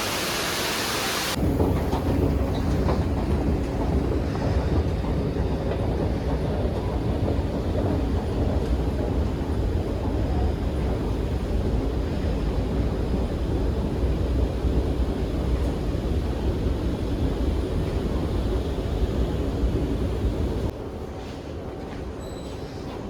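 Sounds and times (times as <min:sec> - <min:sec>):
moving train rumble: 0:00.0 - 0:23.0.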